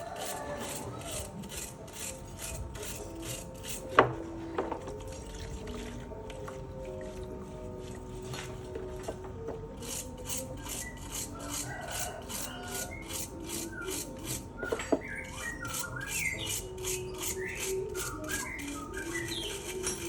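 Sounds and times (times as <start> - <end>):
stiff brush scrubbing metal: 0.0 - 9.2, 9.8 - 20.0.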